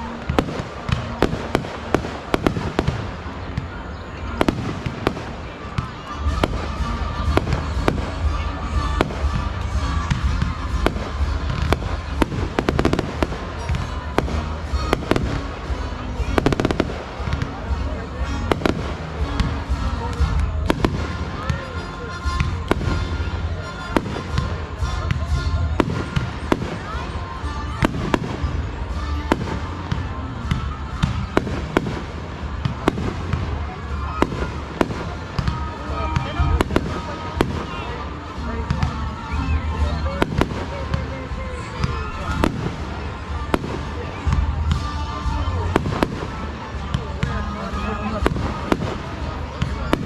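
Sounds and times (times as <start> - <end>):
fireworks cracks and bangs: 0.0 - 50.0.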